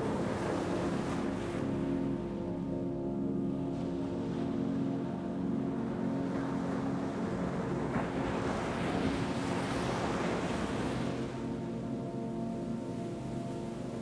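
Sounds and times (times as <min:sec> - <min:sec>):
soft ambient drone: 0:00.0 - 0:14.0.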